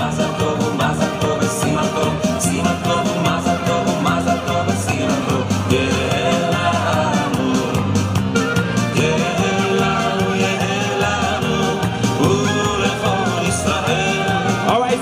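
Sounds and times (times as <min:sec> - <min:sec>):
music with singing and beat: 0:00.0 - 0:15.0.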